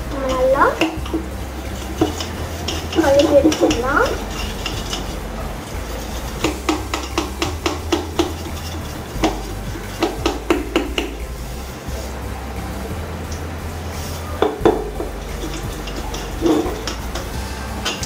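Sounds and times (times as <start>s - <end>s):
stick scraping inside copper bottle: 0.0s - 18.0s.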